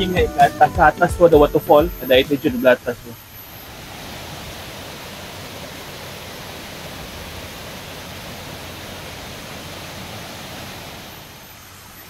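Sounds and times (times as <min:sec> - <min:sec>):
stream water rushing: 0:01.6 - 0:12.0.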